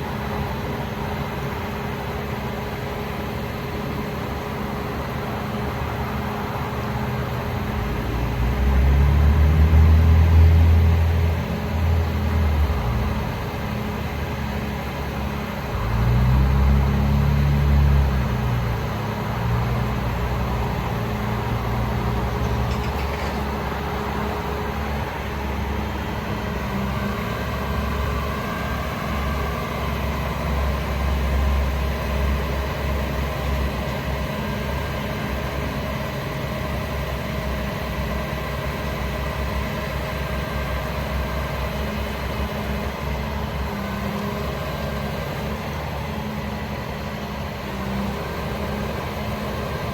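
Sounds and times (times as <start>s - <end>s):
diesel truck engine idling: 0.0s - 49.9s.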